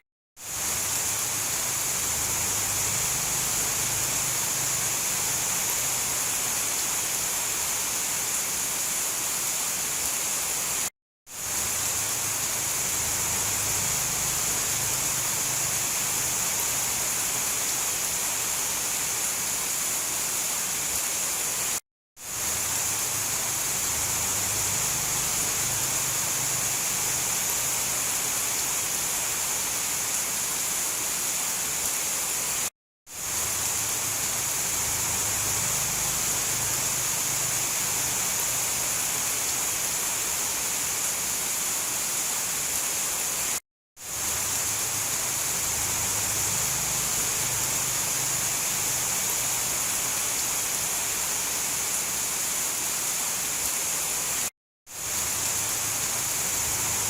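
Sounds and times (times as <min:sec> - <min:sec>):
heavy rain: 0:00.4 - 0:57.0.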